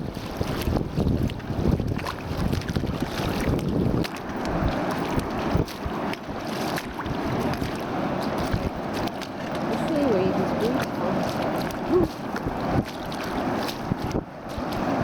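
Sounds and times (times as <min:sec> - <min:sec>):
sea surf rushing: 0:00.0 - 0:15.0
wind buffeting microphone: 0:00.0 - 0:15.0
splashy crackles: 0:00.4 - 0:14.9.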